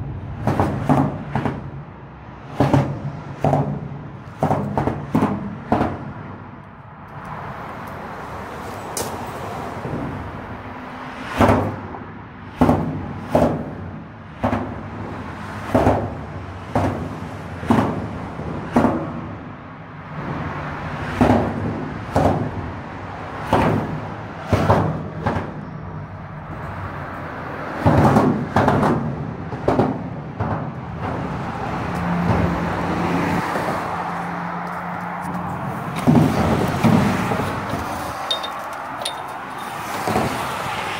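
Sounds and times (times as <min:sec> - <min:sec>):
hum of passing traffic: 0:00.0 - 0:40.9
vehicles thumping over expansion joint: 0:00.1 - 0:10.3, 0:11.2 - 0:40.9.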